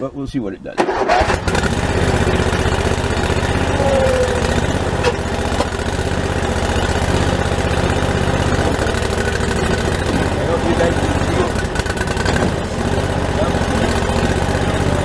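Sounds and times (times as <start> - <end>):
skid steer engine running: 1.2 - 15.0.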